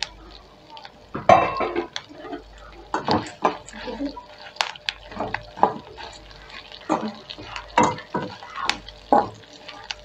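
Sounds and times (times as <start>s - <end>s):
light sizzle: 0.0s - 10.0s.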